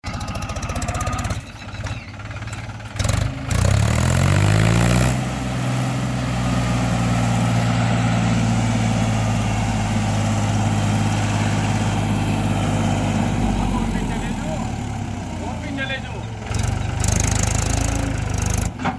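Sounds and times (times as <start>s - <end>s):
diesel tractor engine starting: 0.0s - 18.9s.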